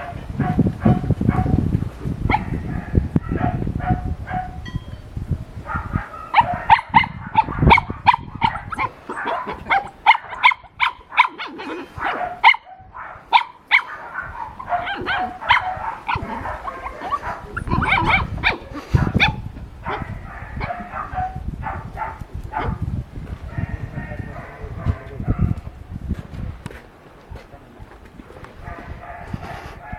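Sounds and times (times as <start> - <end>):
dog barking: 0.0 - 1.7, 2.3 - 4.6, 5.6 - 22.9, 23.5 - 25.6, 28.6 - 29.9.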